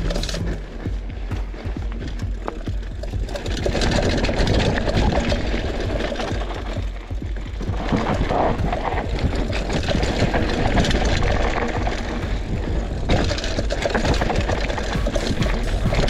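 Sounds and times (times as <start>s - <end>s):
bike rattles and clicks: 0.0s - 16.0s
bike tyres rumbling on dirt: 0.0s - 16.0s.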